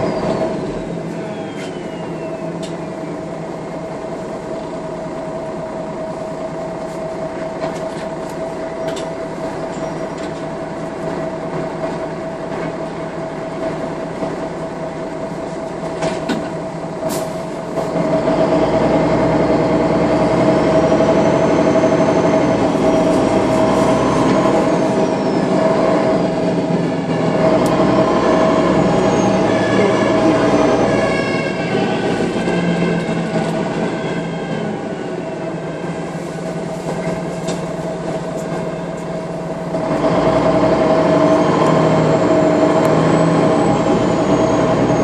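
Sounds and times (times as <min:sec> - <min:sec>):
bus diesel engine humming: 0:00.0 - 0:45.0
bus pulling away whine: 0:00.0 - 0:45.0.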